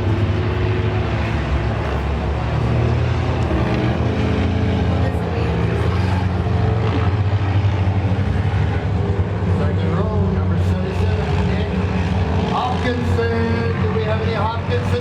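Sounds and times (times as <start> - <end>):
stock car engines droning: 0.0 - 15.0.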